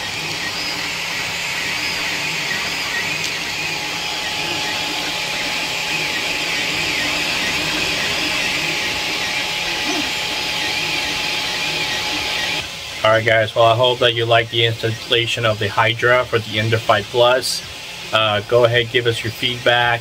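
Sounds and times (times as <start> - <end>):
cooling fans blowing: 0.0 - 20.0
stepper motors whining: 0.0 - 20.0.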